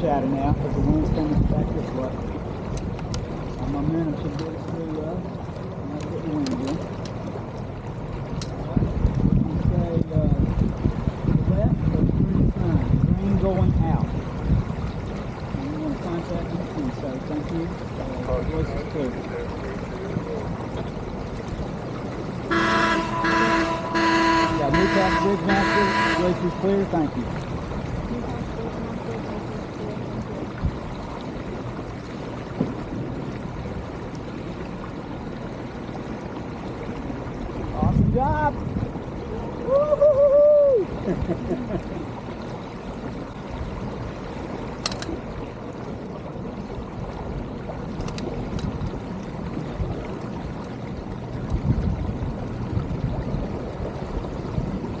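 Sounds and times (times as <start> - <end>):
water rushing along hull: 0.0 - 55.0
wind buffeting microphone: 0.0 - 55.0.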